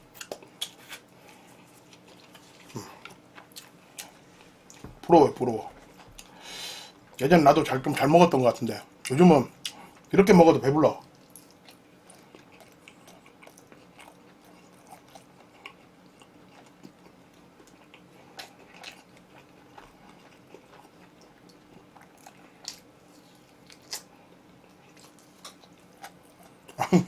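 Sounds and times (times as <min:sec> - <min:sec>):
man chewing food: 0:00.0 - 0:07.3, 0:08.9 - 0:10.2, 0:11.0 - 0:27.0.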